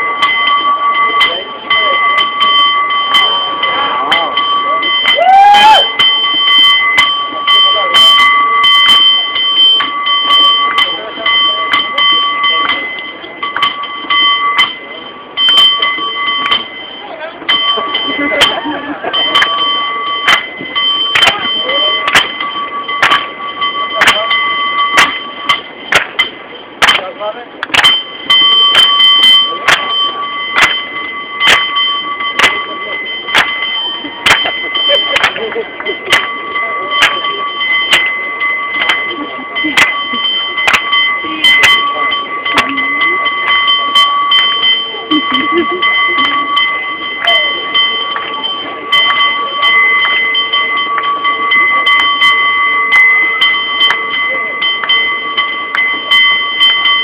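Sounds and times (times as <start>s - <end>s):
cable car bell clanging: 0.0s - 57.0s.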